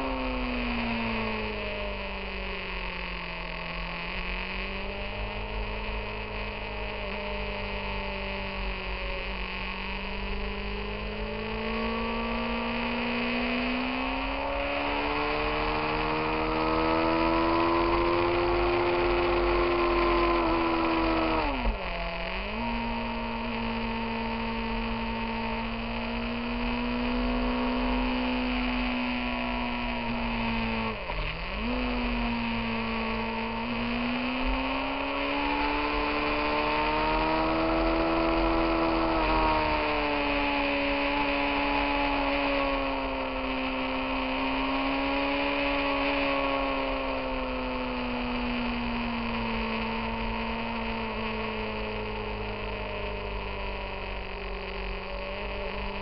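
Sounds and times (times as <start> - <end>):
motorcycle engine: 0.0 - 56.0
wind and road noise: 0.0 - 56.0.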